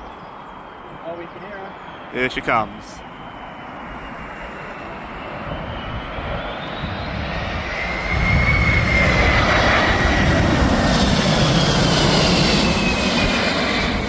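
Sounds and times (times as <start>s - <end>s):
jet airliner flying past: 0.0s - 14.0s
jet engine high whine: 0.0s - 14.0s.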